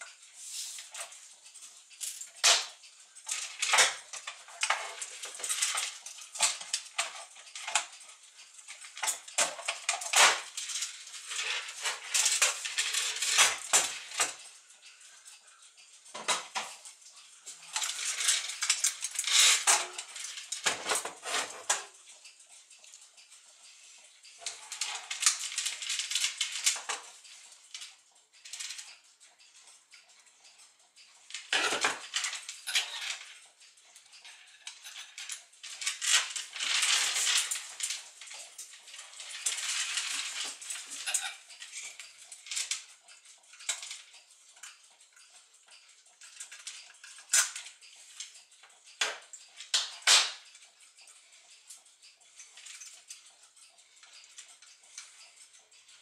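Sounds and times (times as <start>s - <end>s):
metal clock parts clinking: 0.0s - 56.0s.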